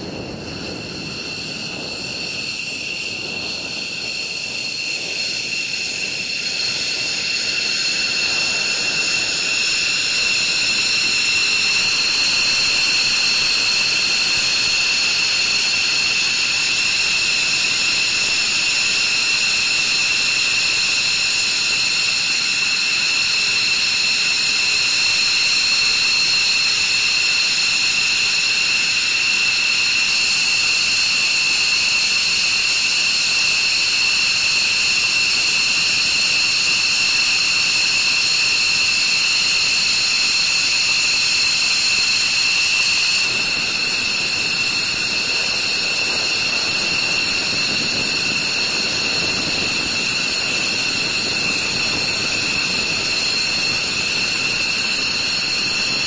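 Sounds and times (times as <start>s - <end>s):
jet engines idling whine: 0.0s - 56.0s.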